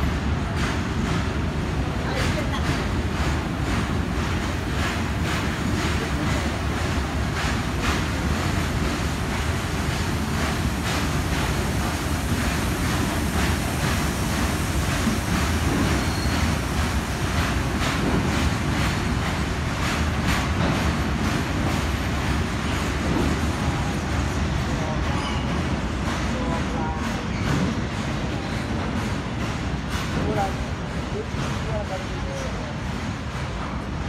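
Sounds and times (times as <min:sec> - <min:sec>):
train wagons rolling on rails: 0:00.0 - 0:34.0.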